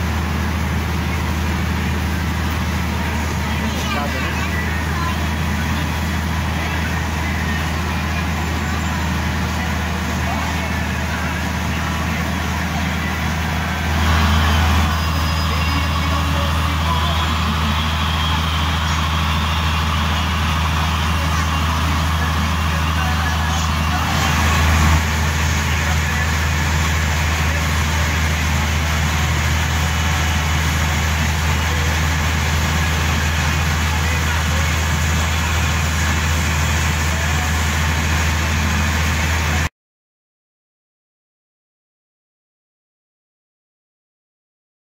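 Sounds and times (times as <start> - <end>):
boat engine droning: 0.0 - 39.7.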